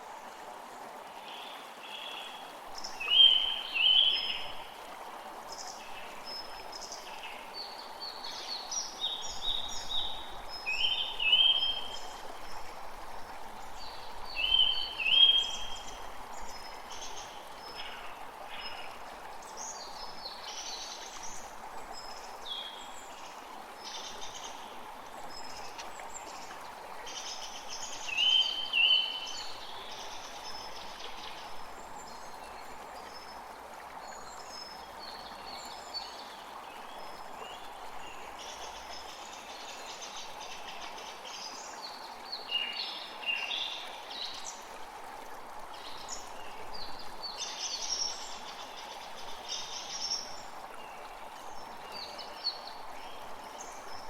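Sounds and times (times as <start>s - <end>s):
creek running: 0.0s - 54.0s.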